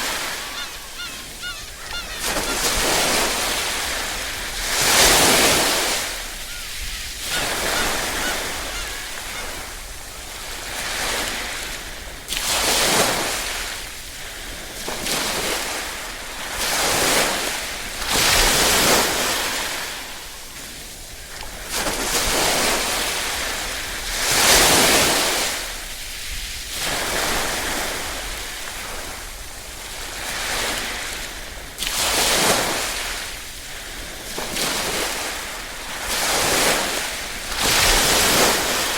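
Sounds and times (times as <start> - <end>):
small waves lapping ashore: 0.0 - 38.9.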